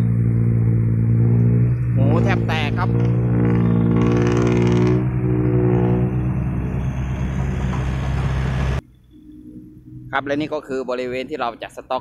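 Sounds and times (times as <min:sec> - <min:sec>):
truck engine with loud exhaust: 0:00.0 - 0:12.0.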